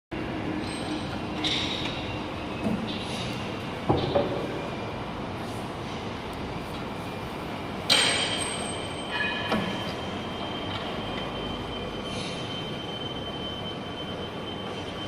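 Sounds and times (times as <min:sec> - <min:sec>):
steady mechanical noise: 0:00.1 - 0:15.0.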